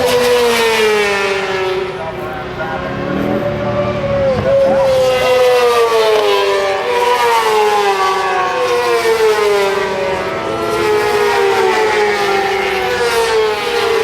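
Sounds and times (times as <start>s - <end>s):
racing motorcycle engine: 0.0s - 14.0s.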